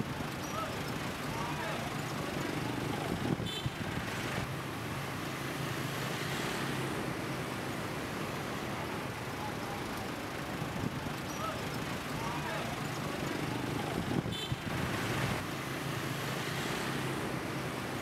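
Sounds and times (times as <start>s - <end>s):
motorbike and vehicle engines: 0.0s - 18.0s.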